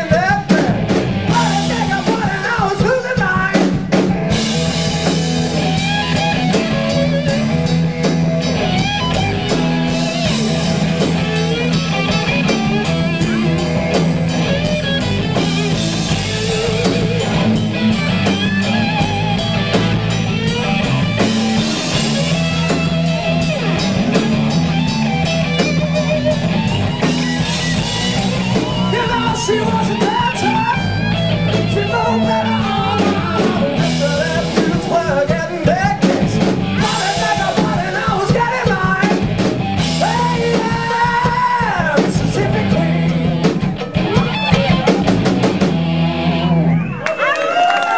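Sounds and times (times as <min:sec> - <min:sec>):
drum kit: 0:00.0 - 0:47.0
low bass notes: 0:00.0 - 0:47.0
electric guitar: 0:00.0 - 0:47.9.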